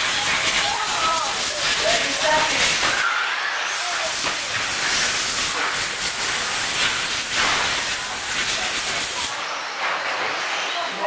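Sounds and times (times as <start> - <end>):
rc cars racing: 0.0 - 11.0.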